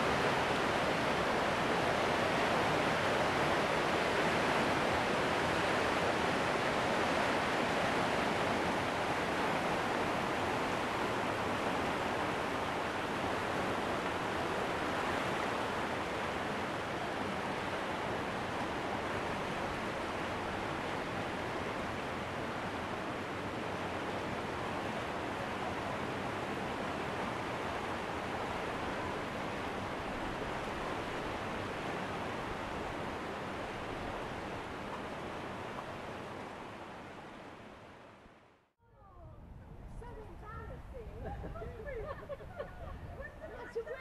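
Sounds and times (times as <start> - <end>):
river rapids roaring: 0.0 - 38.5.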